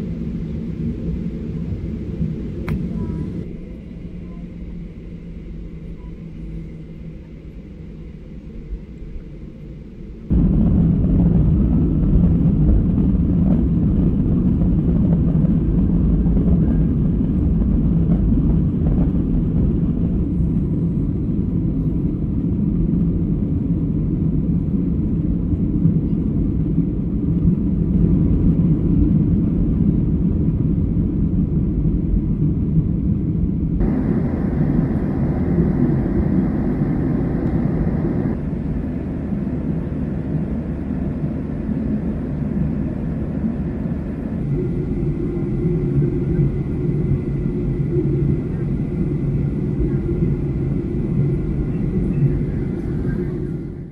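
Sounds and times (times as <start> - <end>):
jet engine rumble in cabin: 0.0 - 53.9.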